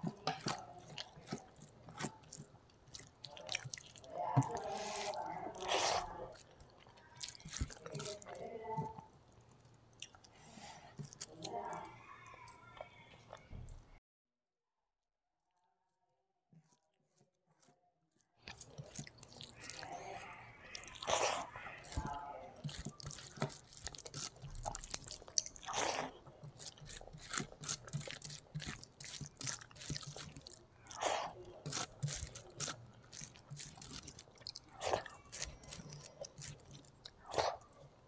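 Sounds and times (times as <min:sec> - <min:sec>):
person chewing food: 0:00.0 - 0:14.0, 0:18.4 - 0:38.0.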